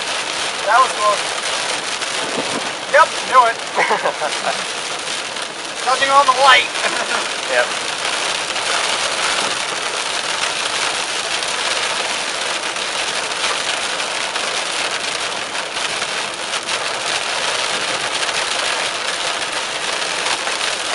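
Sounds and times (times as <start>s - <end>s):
heavy rain on car roof: 0.0s - 20.9s
tyres on wet road: 0.0s - 20.9s.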